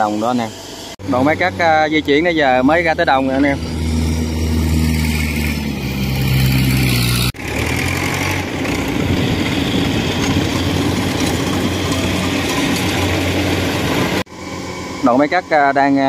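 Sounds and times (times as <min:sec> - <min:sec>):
combine harvester engine running: 0:00.0 - 0:16.0.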